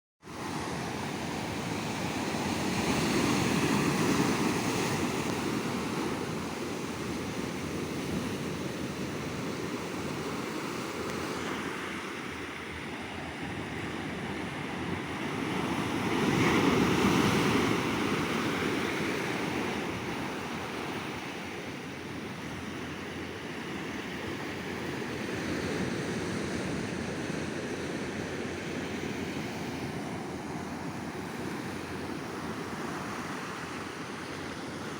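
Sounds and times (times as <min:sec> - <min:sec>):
ocean waves breaking on beach: 0:00.2 - 0:34.9.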